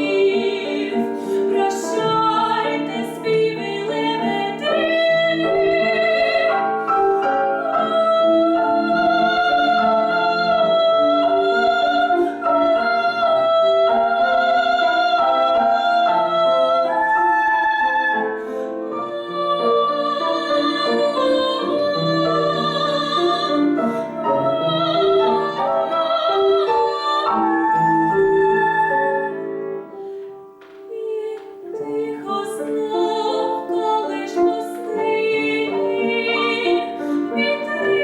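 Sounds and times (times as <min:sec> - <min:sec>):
piano accompaniment: 0:00.0 - 0:38.0.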